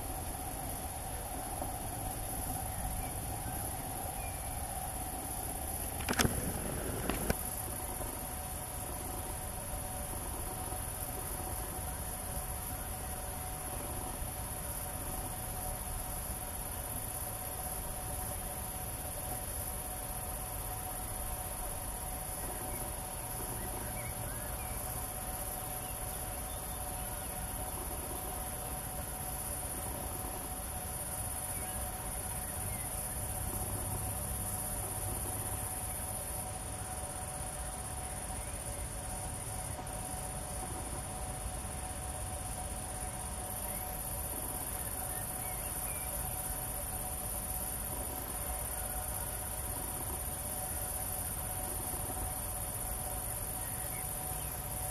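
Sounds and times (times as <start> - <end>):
crickets chirring: 0.0 - 54.9.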